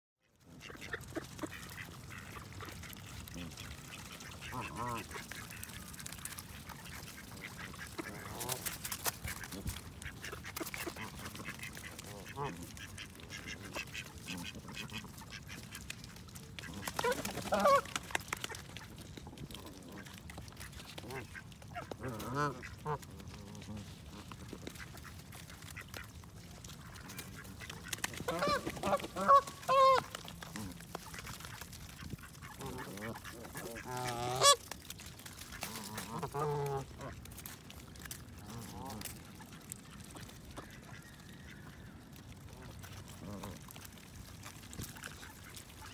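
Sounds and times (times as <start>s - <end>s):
geese honking and grunting: 0.3s - 45.9s.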